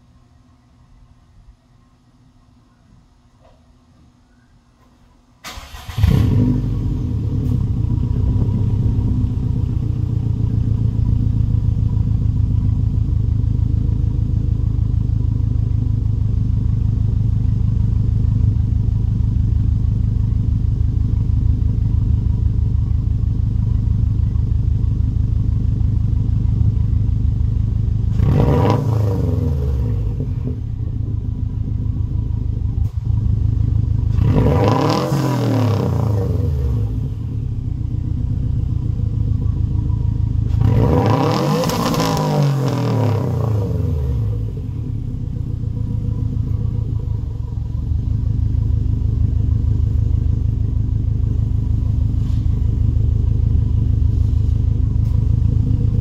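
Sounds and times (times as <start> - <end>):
car engine idling and revving: 5.5 - 56.0.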